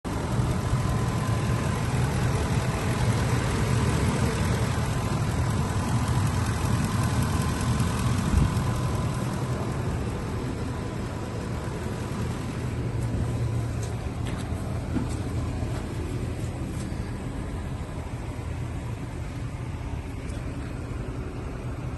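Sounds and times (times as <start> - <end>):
van engine idling: 0.0 - 21.9.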